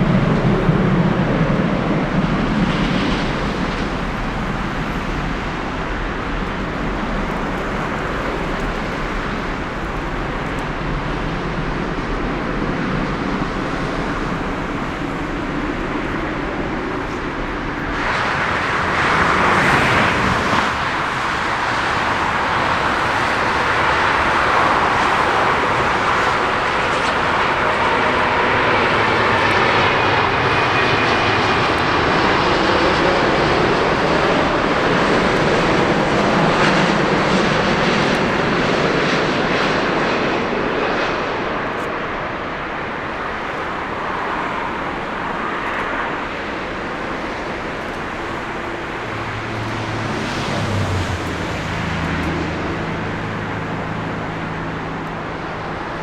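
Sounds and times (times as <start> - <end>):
jet airliner passing: 0.0 - 56.0.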